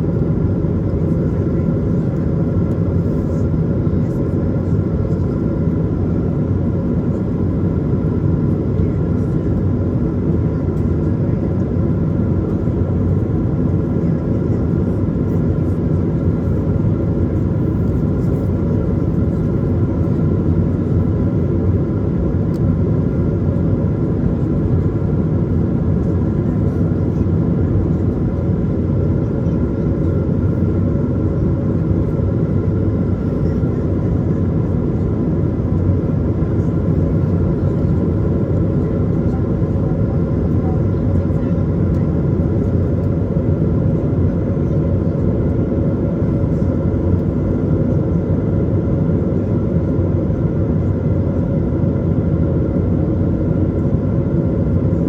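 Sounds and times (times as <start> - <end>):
jet engines low roar: 0.0 - 55.0.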